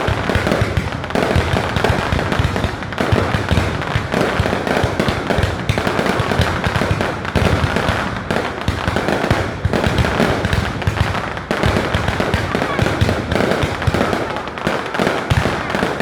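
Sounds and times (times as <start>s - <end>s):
firework shell bursts and crackles: 0.0s - 16.0s.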